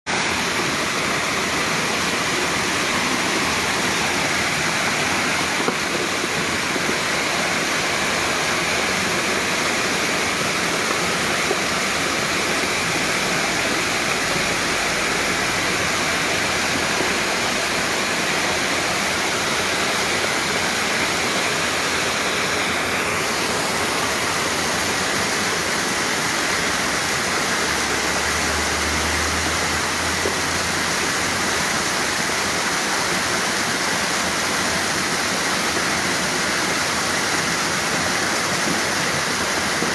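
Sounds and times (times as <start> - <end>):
floodwater rushing down a creek: 0.1 - 39.9.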